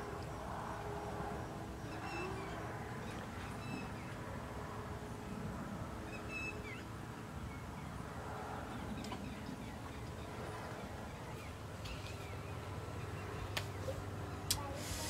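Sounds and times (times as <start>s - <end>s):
low countryside ambience: 0.0s - 15.0s.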